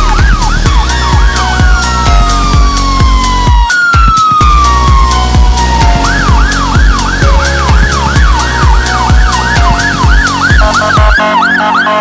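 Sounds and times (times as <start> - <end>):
low pulsing sound: 0.0 - 3.6, 4.4 - 11.1
fire engine siren yelping: 0.0 - 12.0.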